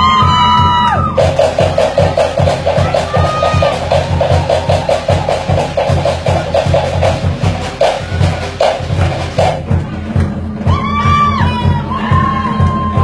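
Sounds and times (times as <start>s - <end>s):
pulsing bass drum beat: 0.0s - 13.0s.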